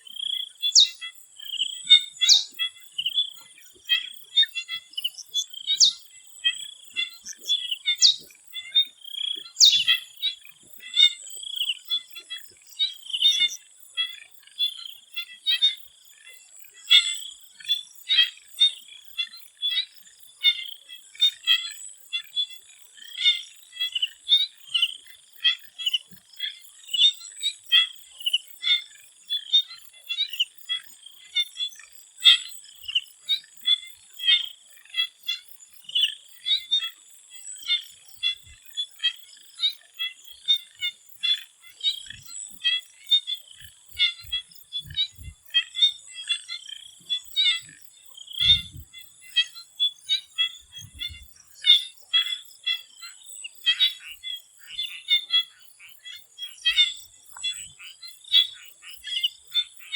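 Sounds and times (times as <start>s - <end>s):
frogs calling: 0.0s - 59.9s.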